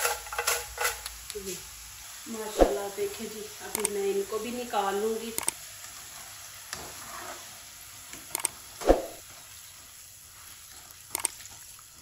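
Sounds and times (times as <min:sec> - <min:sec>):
hot oil hissing: 0:00.0 - 0:12.0.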